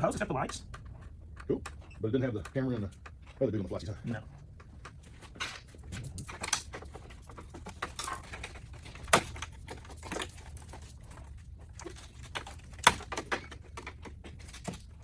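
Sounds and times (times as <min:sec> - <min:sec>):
plastic parts clicking and knocking: 0:00.0 - 0:15.0.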